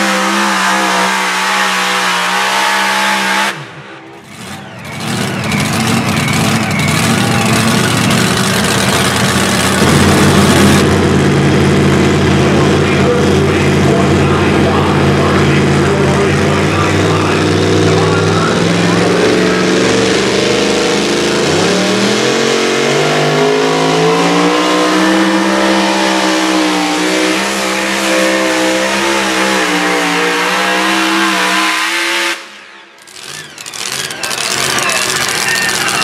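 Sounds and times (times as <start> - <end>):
truck engine at full throttle: 0.0 - 36.0.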